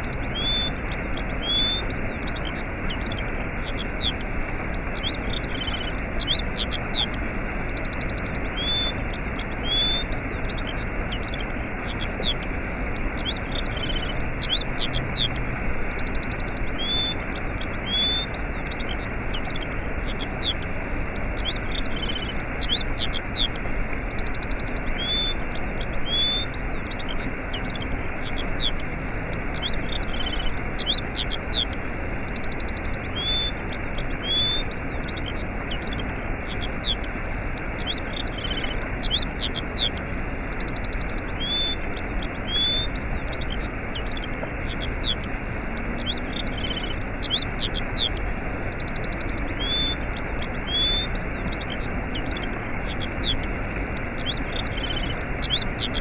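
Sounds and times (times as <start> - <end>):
small birds chirping: 0.0 - 56.0
waterfall rushing: 0.1 - 56.0.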